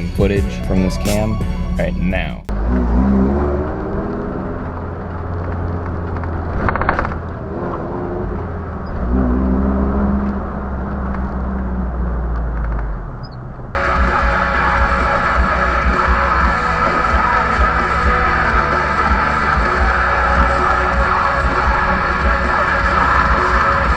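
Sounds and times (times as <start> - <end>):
car engine accelerating: 0.0 - 23.9.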